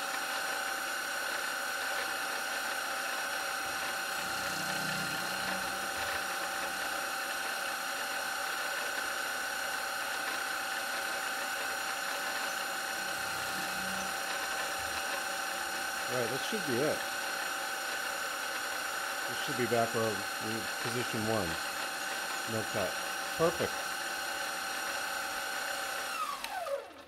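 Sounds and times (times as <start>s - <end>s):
milling machine spindle whine: 0.0s - 27.0s.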